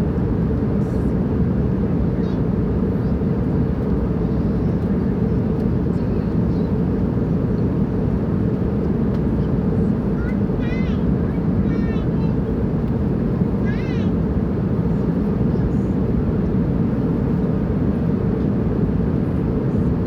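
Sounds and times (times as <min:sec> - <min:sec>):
airplane engines rumbling: 0:00.0 - 0:20.0.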